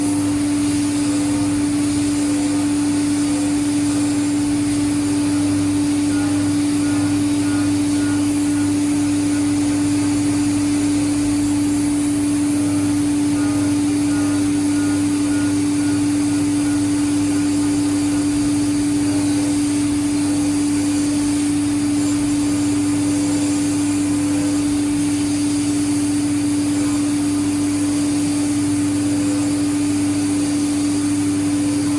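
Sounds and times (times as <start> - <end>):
coolant hiss: 0.0 - 31.9
milling machine hum: 0.0 - 31.9.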